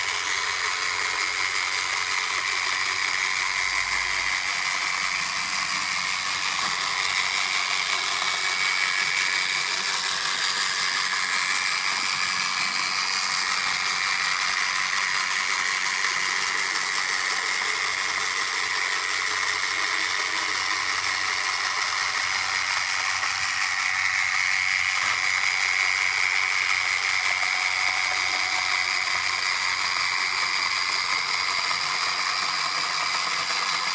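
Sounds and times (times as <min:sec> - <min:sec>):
robot vacuum whirring: 0:00.0 - 0:33.9.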